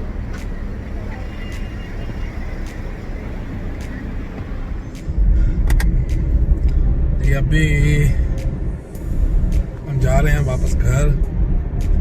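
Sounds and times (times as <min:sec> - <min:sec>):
car traffic rumble: 0:00.0 - 0:12.0.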